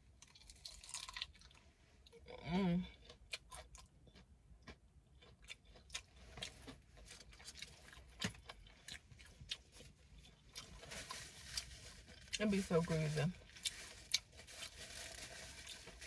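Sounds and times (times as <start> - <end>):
chewing fried chicken: 0.1 - 12.5, 13.3 - 16.0.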